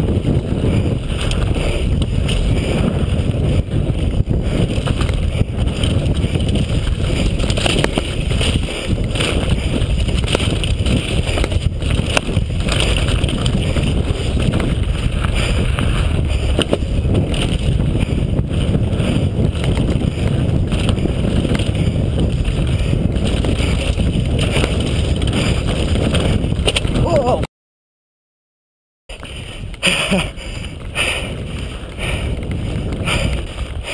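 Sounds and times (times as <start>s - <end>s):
bike tyres on loose ground: 0.0s - 27.4s, 29.1s - 33.9s
wind rush on microphone: 0.0s - 27.5s, 29.1s - 33.9s.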